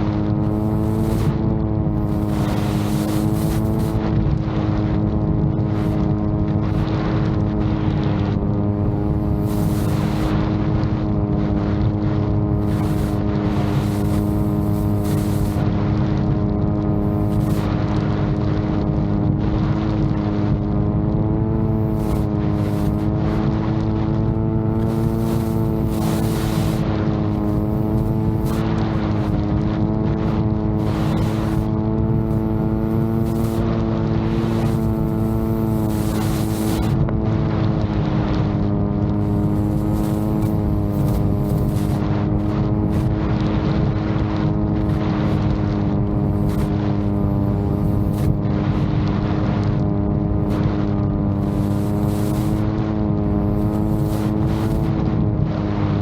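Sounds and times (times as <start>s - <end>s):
drone propellers running: 0.0s - 56.0s
wind hissing on microphone: 0.0s - 56.0s.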